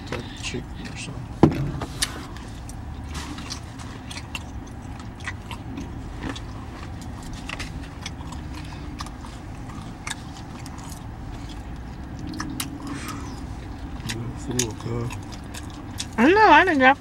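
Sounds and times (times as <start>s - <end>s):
low background rumble: 0.0s - 17.0s
person chewing food: 1.8s - 16.2s.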